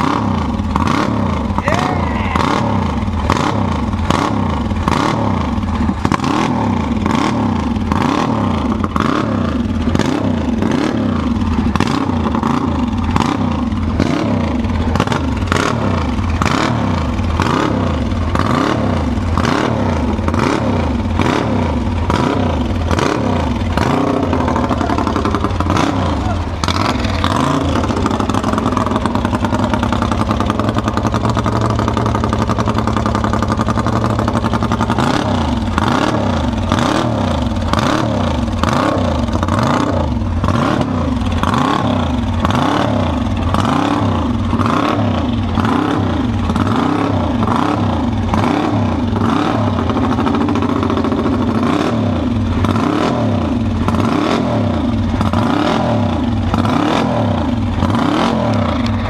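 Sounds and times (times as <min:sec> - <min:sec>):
race motorcycle engine revving: 0:00.0 - 0:59.0.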